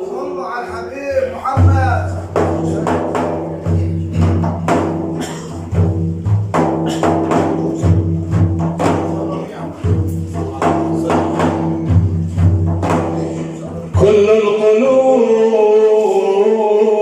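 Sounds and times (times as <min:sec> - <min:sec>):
frame drums beaten in rhythm: 0:00.0 - 0:16.6.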